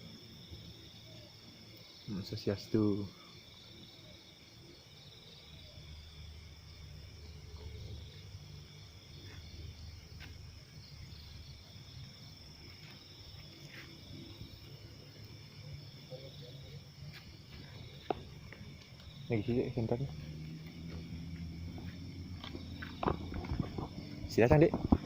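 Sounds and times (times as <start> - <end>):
crickets and insects trilling: 0.0 - 25.0.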